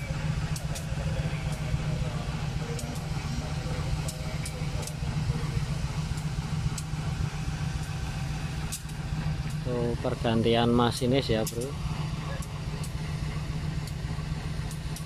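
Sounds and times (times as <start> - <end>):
locomotive engine idling: 0.0 - 15.0.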